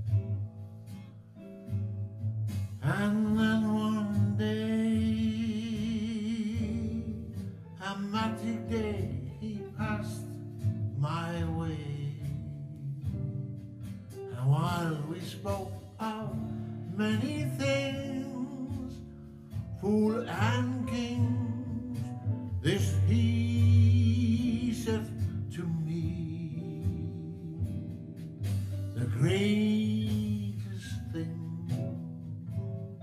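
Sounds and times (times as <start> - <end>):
acoustic guitar: 0.0 - 33.0
man singing wordless notes: 2.8 - 32.8.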